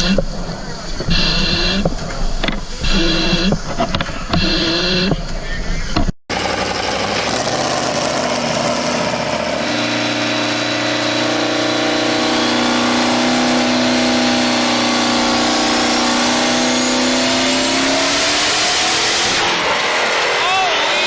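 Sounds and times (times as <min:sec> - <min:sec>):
engine running high pitch: 0:00.0 - 0:21.0.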